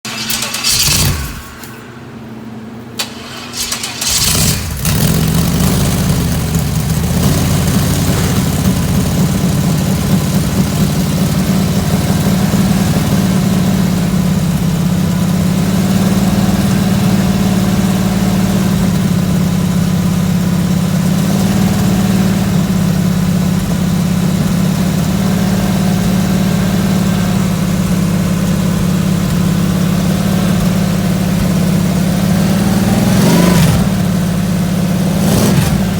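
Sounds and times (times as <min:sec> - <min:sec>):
engine running loud: 0:00.0 - 0:35.9.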